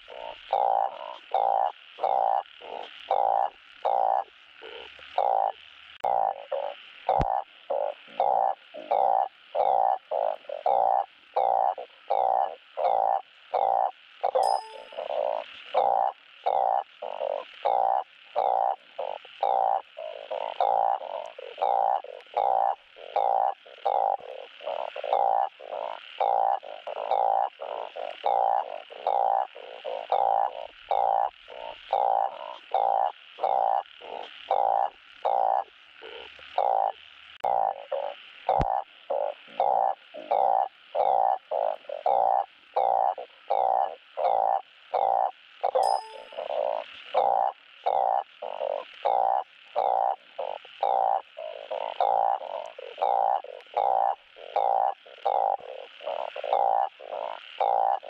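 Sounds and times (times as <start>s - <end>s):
frog croaking: 0.0s - 58.0s.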